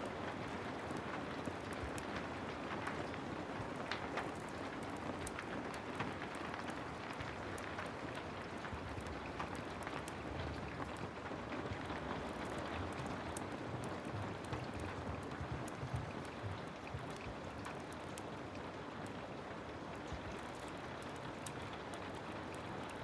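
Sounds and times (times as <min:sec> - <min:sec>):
sharp clicks and crackles: 0:00.0 - 0:19.2, 0:19.9 - 0:23.0
heavy rain falling: 0:00.0 - 0:23.0.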